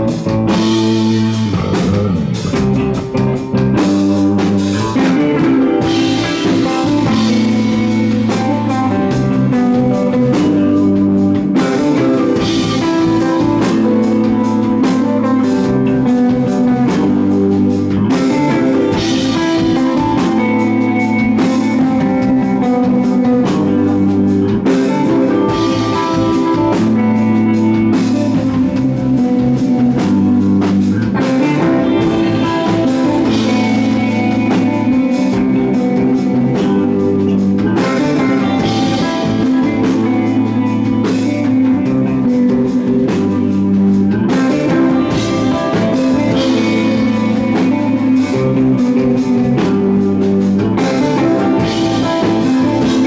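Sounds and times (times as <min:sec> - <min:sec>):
bass guitar: 0:00.0 - 0:53.0
drum kit with cymbals: 0:00.0 - 0:53.0
electric guitar: 0:00.0 - 0:53.0.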